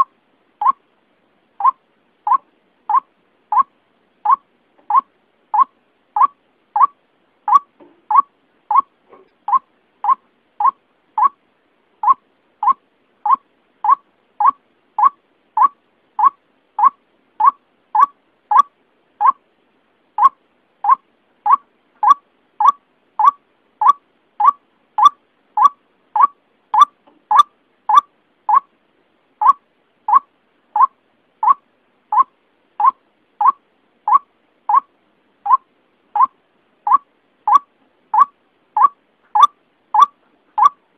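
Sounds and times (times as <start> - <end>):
waterhen call: 1.6 - 8.9, 9.5 - 11.4, 12.0 - 19.4, 20.2 - 28.7, 29.4 - 40.8.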